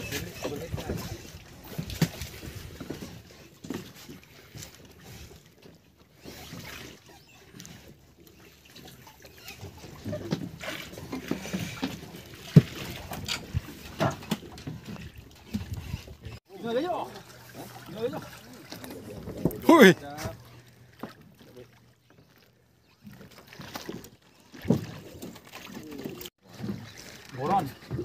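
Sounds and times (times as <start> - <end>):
water sloshing against hull: 0.0 - 28.0.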